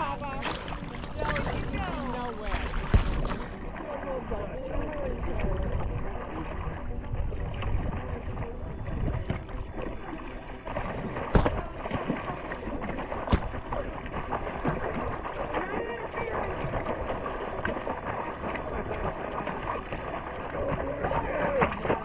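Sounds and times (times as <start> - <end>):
paddle strokes and water sloshing: 0.0 - 22.0
wind buffeting microphone: 0.0 - 22.0.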